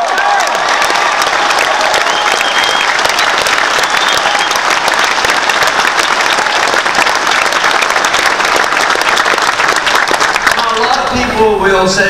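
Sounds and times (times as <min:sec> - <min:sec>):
hands clapping close by: 0:00.0 - 0:11.0
large crowd applauding: 0:00.0 - 0:11.3.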